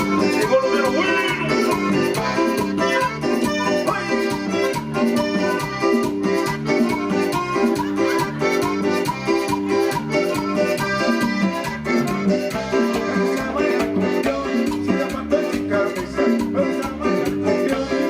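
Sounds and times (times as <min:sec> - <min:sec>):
keyboard melody: 0:00.0 - 0:18.0
repeating bass line: 0:00.0 - 0:18.0
steady beat: 0:00.1 - 0:16.4.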